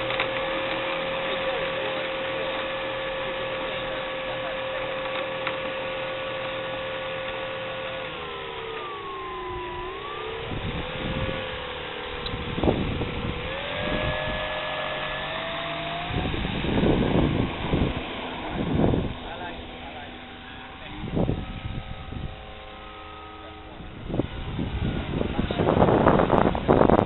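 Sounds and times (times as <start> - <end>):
low rumbles: 0.0 - 27.0
model plane motor whining: 0.0 - 27.0.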